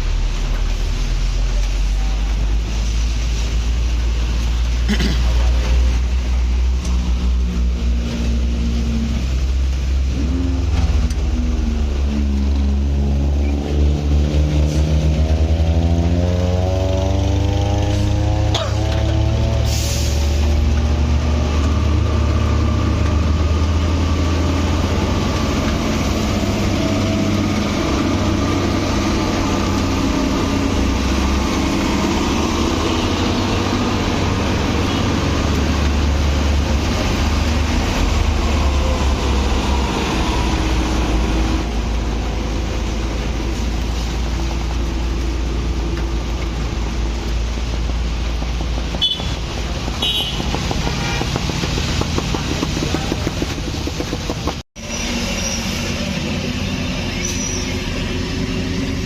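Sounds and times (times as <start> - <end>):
heavy vehicle engine rumbling: 0.0 - 59.0.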